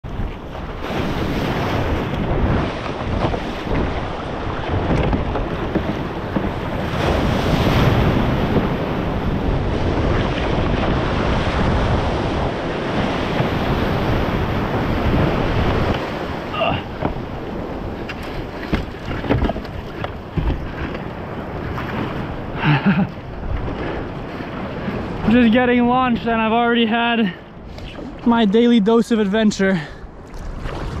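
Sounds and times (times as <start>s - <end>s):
water splashing over bow: 0.0s - 26.6s, 27.3s - 28.7s, 30.1s - 31.0s
surf breaking: 0.0s - 31.0s
wind buffeting microphone: 0.0s - 31.0s.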